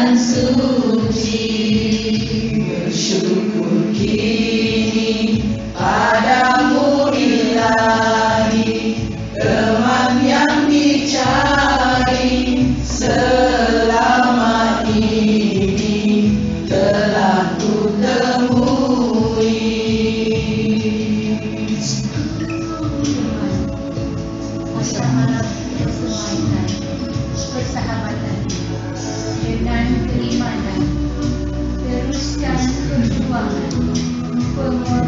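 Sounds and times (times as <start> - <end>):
group of voices singing: 0.0 - 35.0
steady musical accompaniment: 0.0 - 35.0.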